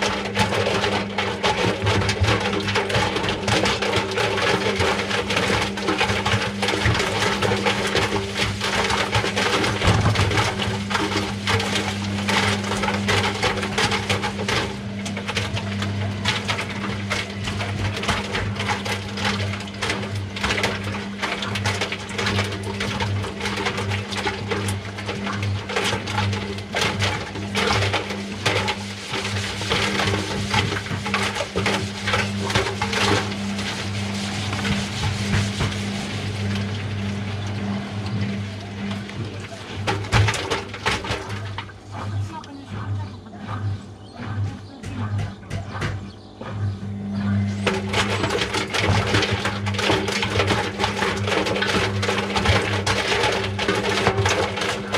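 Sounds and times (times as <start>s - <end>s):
washing machine motor hum: 0.0s - 54.9s.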